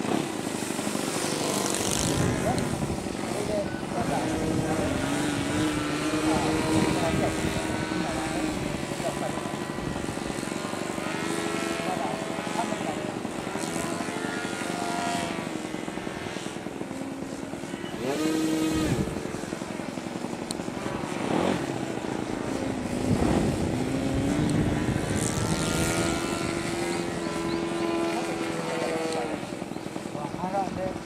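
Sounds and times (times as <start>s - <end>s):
model airplane engine: 0.0s - 31.0s.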